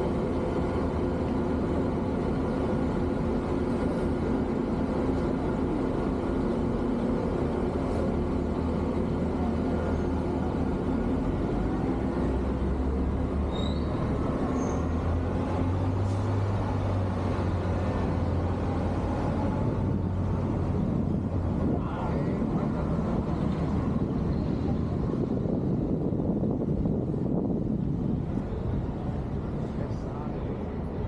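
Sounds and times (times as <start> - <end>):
road noise: 0.0 - 31.0
vehicle engine humming: 0.0 - 31.0.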